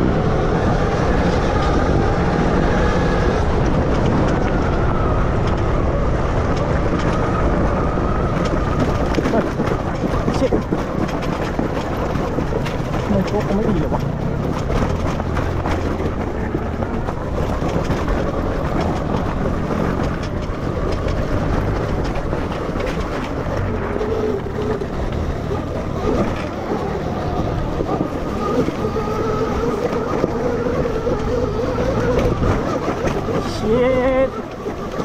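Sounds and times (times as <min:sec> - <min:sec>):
motorcycle riding noise: 0:00.0 - 0:35.0.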